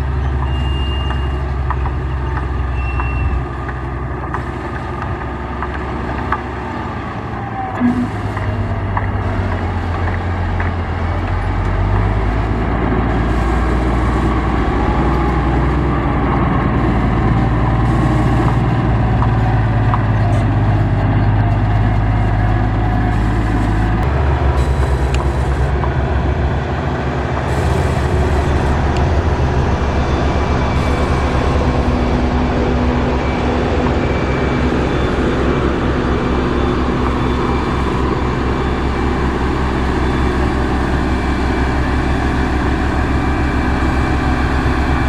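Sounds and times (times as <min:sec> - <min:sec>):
heavy machinery diesel engine: 0:00.0 - 0:45.0.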